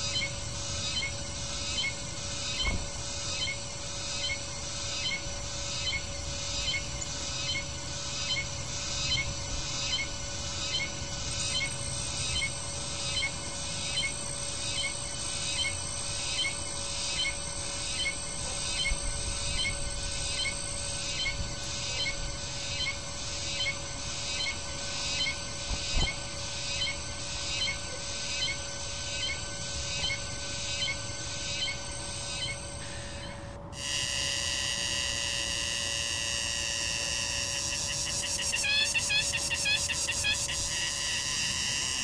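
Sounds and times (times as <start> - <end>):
steady background hum: 0.0 - 42.0
small bird calling: 5.0 - 25.4, 26.7 - 42.0.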